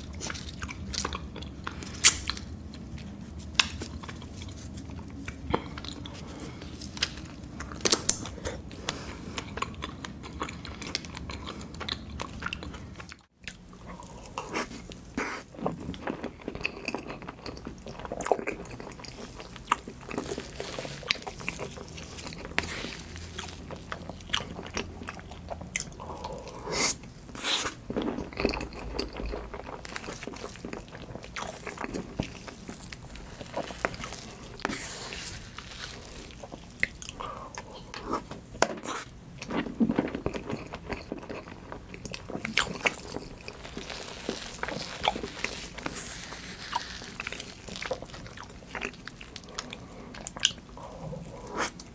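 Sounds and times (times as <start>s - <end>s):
close chewing and crunching: 0.0s - 51.9s.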